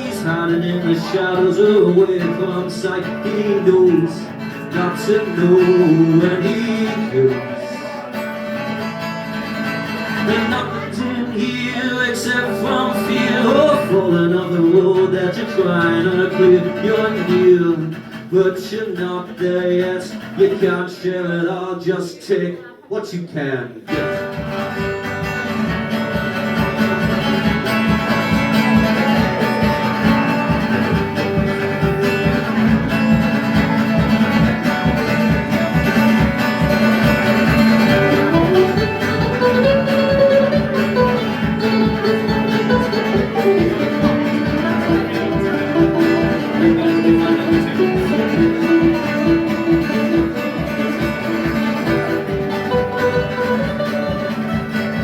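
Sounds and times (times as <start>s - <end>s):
live band instrumental: 0.0s - 18.3s, 23.9s - 55.0s.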